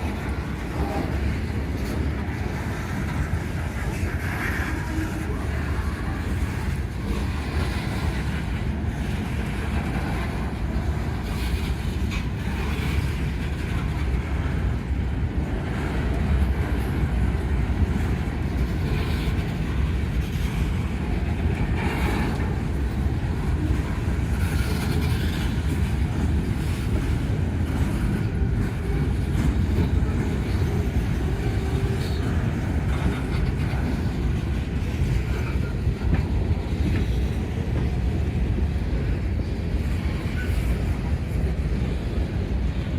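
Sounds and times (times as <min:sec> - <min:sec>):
freight train cars rolling: 0:00.0 - 0:42.9.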